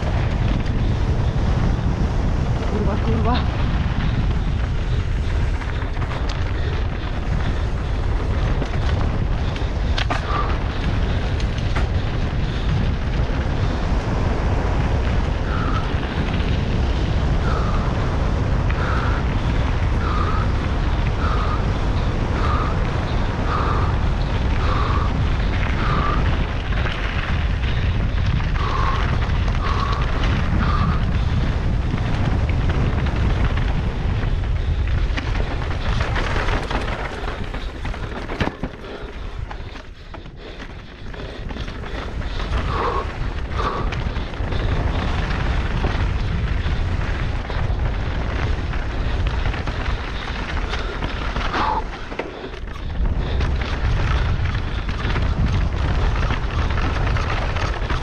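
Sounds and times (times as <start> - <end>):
bike rattling over rock: 0.0 - 58.0
wind rushing over microphone: 0.0 - 58.0.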